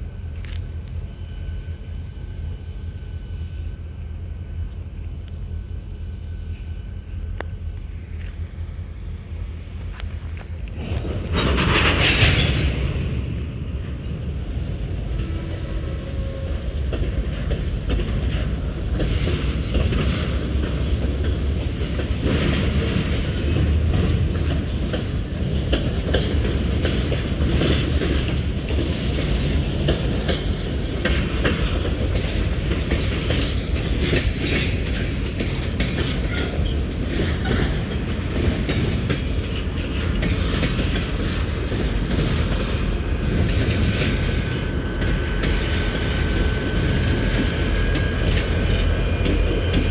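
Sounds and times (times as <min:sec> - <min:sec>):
railroad cars rumbling: 0:00.0 - 0:49.9
wheels clattering over rail joints: 0:09.8 - 0:49.9.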